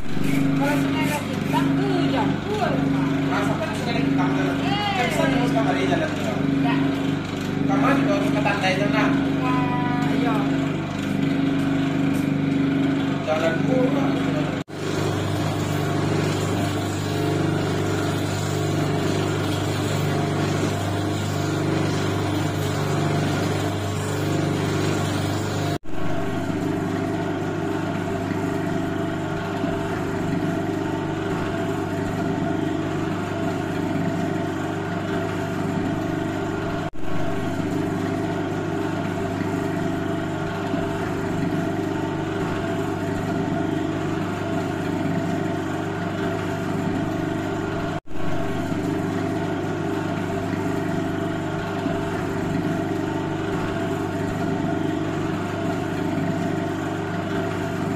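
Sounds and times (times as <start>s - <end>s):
stirring machine motor humming: 0.0s - 57.9s.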